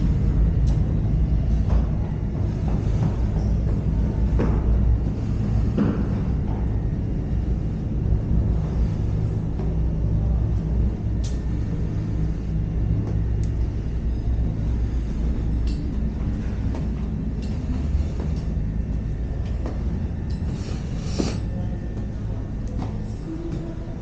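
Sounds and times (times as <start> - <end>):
footsteps going down stairs: 0.0 - 24.0
low rumble: 0.0 - 24.0.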